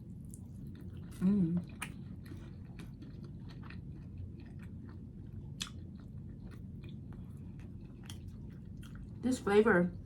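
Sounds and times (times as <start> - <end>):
chewing breaded chicken crunches: 0.0 - 9.2.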